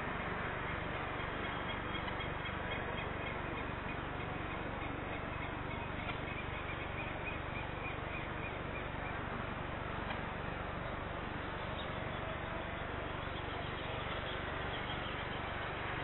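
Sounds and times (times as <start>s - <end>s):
low rumble with hiss: 0.0s - 16.0s.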